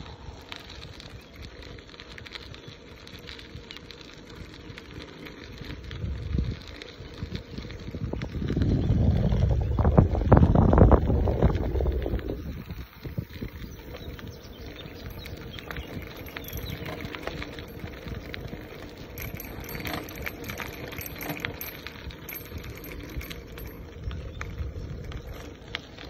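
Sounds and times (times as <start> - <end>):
bicycle tyres crunching on gravel: 0.0 - 26.0.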